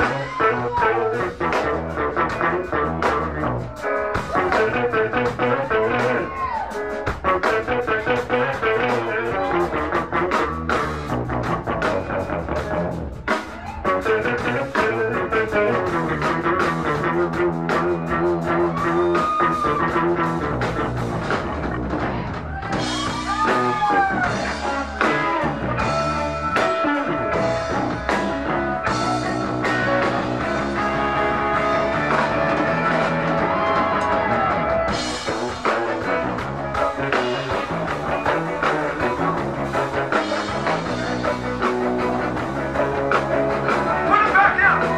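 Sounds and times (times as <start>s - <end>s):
bass: 0.0s - 44.9s
drum kit: 0.0s - 44.9s
electric guitar bending notes: 0.0s - 44.9s.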